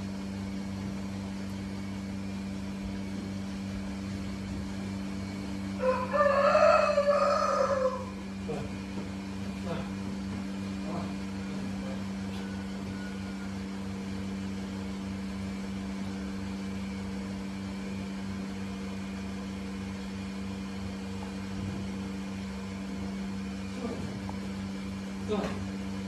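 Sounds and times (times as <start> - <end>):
barn machinery droning hum: 0.0 - 26.0
low regular pulsing: 0.0 - 26.0.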